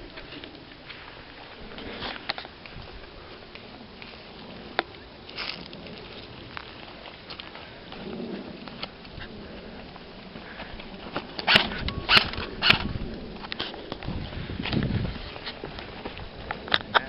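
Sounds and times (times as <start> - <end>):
rustling: 0.0 - 17.0.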